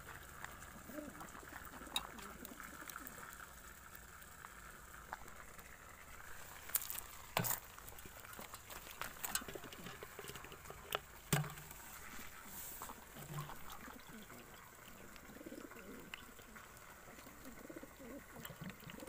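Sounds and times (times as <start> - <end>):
faint crackly hiss: 0.0 - 19.0.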